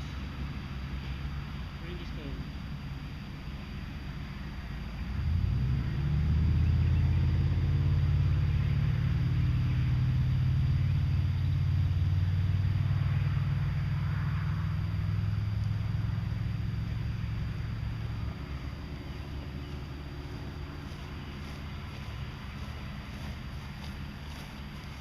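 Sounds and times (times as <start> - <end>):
vehicle engine low rumble: 0.0 - 25.0.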